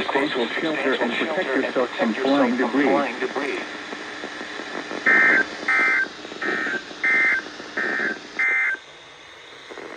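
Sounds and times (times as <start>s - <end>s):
buzzy digital data tones: 0.0s - 9.9s.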